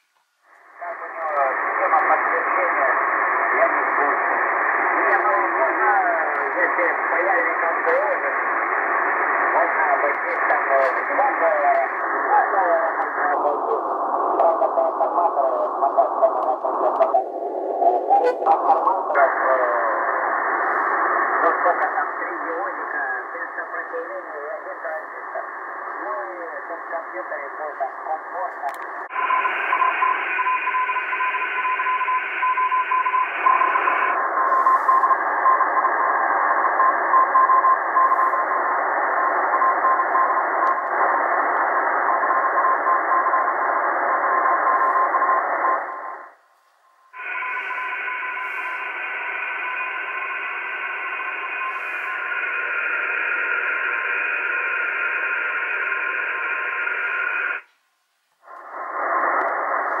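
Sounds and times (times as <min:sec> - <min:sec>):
radio hiss and static: 0:00.0 - 1:00.0.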